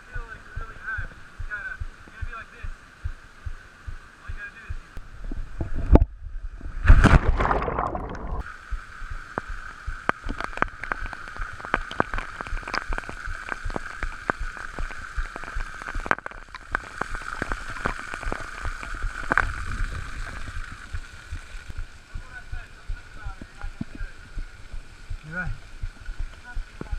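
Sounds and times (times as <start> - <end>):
water splashing and gurgling: 0.0 - 26.9.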